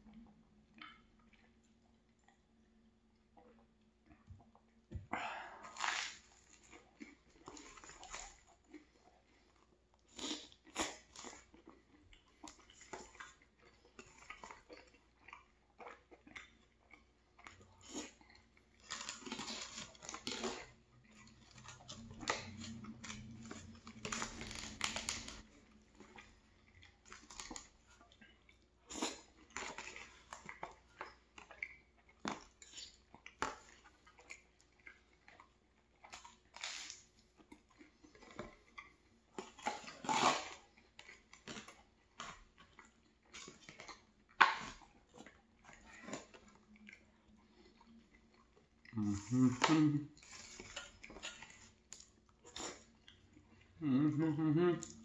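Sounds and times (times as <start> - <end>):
close-miked chewing with crunchy bites: 0.0 - 55.0.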